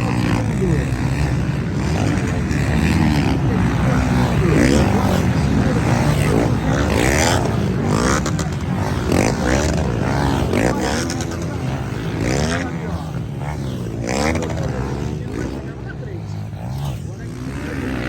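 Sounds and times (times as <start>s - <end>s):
motocross motorcycles revving: 0.0s - 18.0s.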